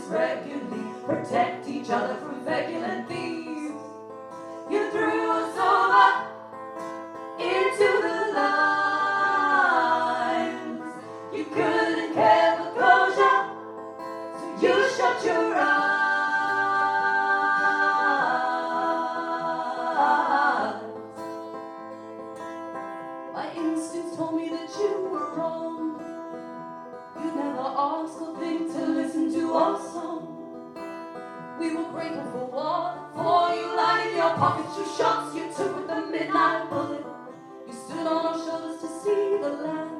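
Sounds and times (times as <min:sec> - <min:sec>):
voices singing folk song: 0:00.0 - 0:21.8, 0:23.3 - 0:39.9
plucked acoustic guitar: 0:00.0 - 0:39.9.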